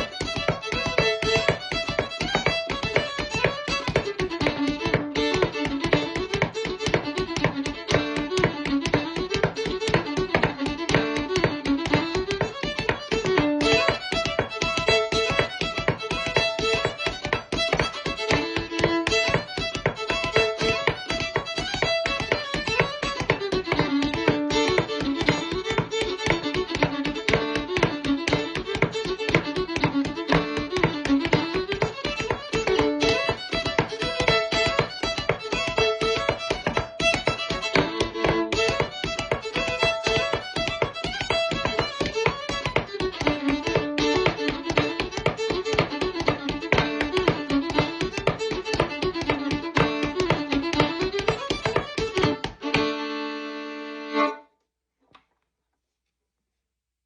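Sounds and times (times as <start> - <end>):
foot tapping beat: 0.0 - 54.5
solo fiddle tune: 0.0 - 54.5.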